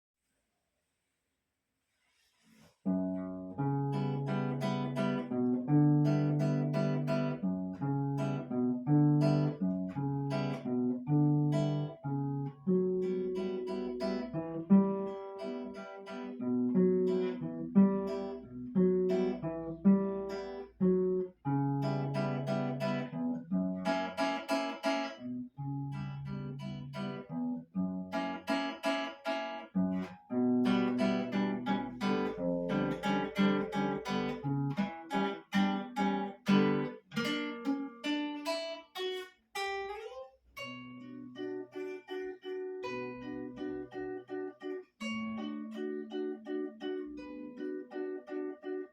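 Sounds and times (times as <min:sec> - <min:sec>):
acoustic guitar plucking: 0:02.9 - 0:48.9.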